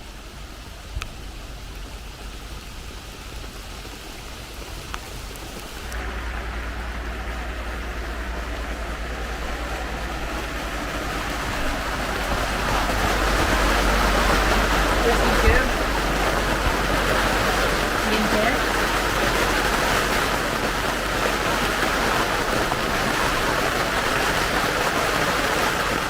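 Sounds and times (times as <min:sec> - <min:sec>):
rain or rushing water hiss: 0:00.0 - 0:26.0.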